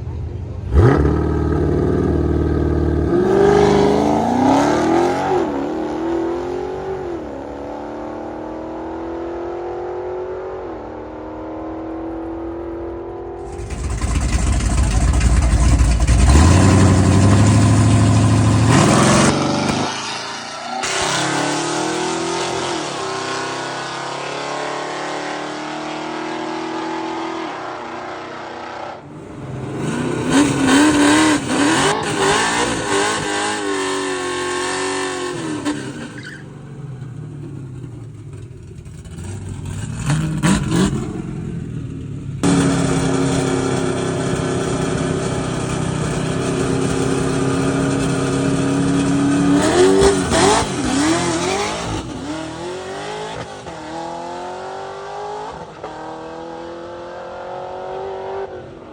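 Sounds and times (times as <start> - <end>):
race car engines idling and revving: 0.0 - 58.9.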